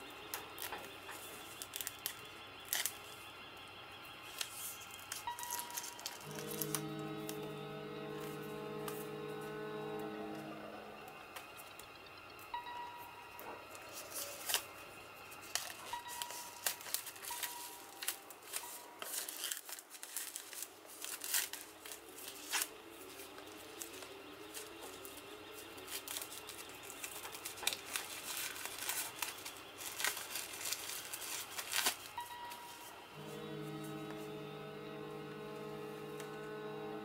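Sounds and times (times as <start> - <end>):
plastic shrink-wrap crinkling: 0.0 - 12.0, 13.4 - 36.4.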